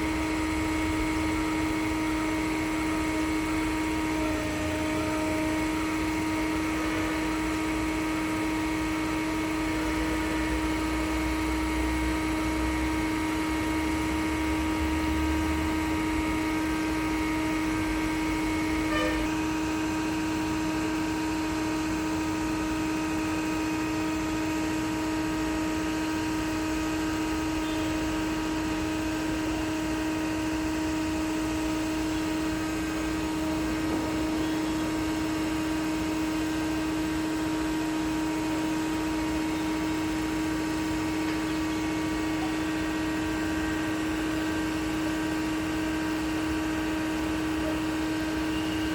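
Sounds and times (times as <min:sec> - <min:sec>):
pump engine droning: 0:00.0 - 0:48.9.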